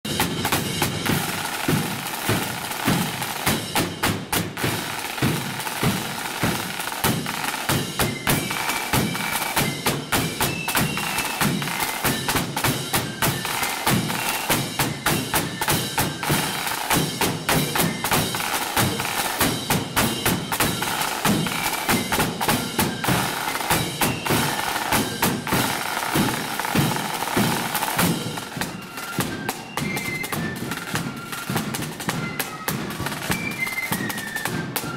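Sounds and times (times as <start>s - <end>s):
snare drums: 0.0s - 34.9s
clash cymbals: 0.1s - 29.4s.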